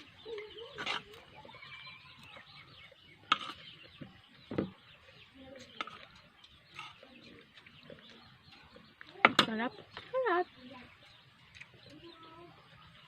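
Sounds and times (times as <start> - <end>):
chickens calling: 0.0 - 13.0
small birds calling: 0.0 - 13.0.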